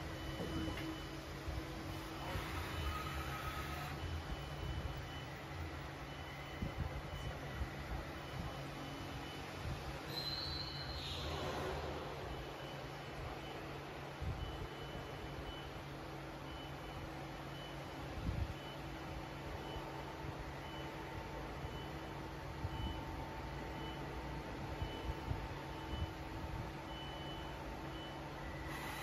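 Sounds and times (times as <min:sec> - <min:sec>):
high machine whine: 0:00.0 - 0:26.7.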